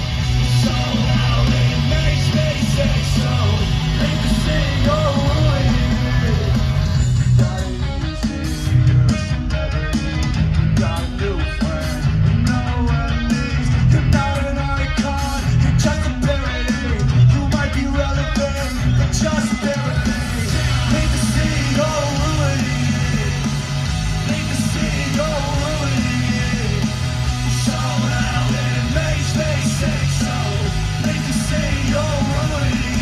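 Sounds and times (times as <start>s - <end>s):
live pop-punk band: 0.0s - 33.0s
male lead vocal: 0.0s - 33.0s.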